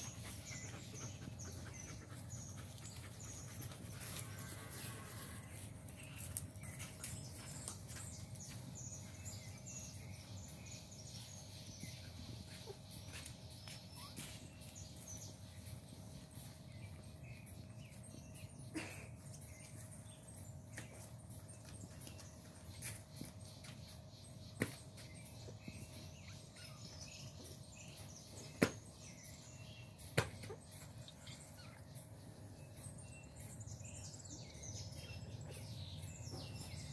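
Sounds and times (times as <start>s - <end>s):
birds chirping faintly: 0.0s - 36.9s.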